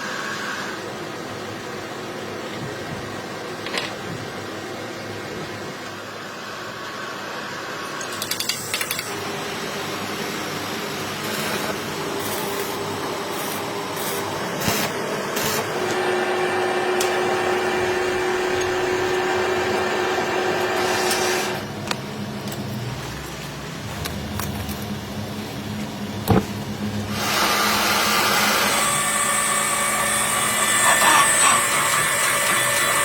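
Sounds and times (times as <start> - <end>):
machine running with a whine: 0.0 - 33.0.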